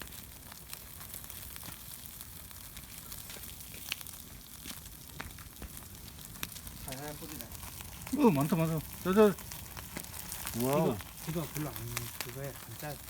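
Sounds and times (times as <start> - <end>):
firewood popping and crackling: 0.0 - 13.0
meat sizzling on grill: 0.0 - 13.0.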